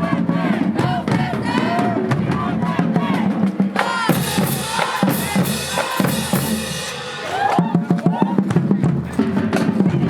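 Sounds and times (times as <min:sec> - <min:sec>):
drumline bass drums and snares: 0:00.0 - 0:10.0
voices shouting or chanting: 0:00.0 - 0:10.0.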